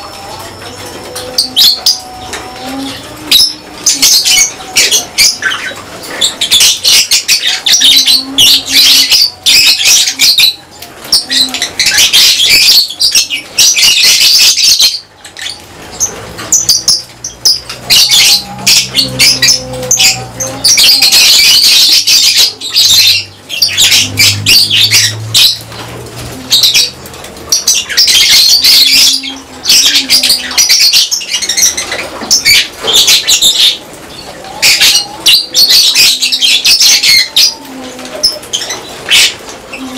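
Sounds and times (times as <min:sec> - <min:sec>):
lovebirds chattering and screeching: 0:00.0 - 0:39.9.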